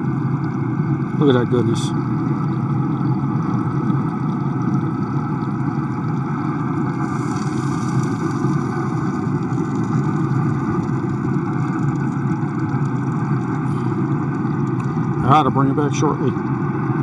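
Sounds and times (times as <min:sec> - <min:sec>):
grill fan whirring: 0:00.0 - 0:17.0.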